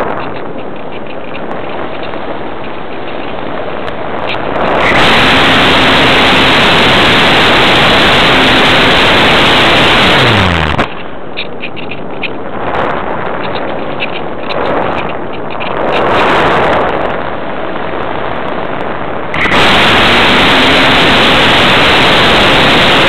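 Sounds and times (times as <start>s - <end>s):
electric motor and propeller hum: 0.0s - 23.0s
wind rushing over camera: 0.0s - 23.0s.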